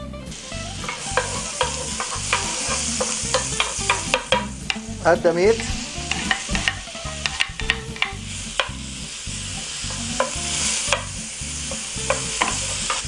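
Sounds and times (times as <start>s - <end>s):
meat sizzling in butter: 0.3s - 13.0s
wooden spatula tapping pan: 0.8s - 8.8s, 9.8s - 13.0s.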